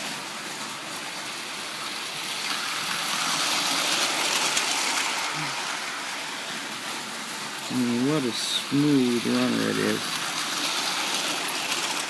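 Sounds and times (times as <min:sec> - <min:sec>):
toy train motor hum: 0:00.0 - 0:12.0
toy train wheel noise: 0:00.0 - 0:12.0.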